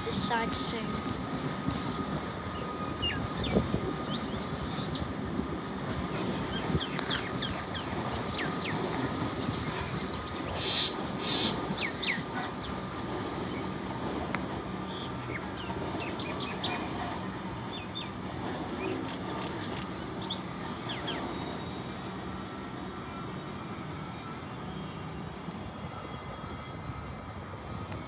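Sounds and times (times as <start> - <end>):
electric train rumbling on tracks: 0.0 - 28.0.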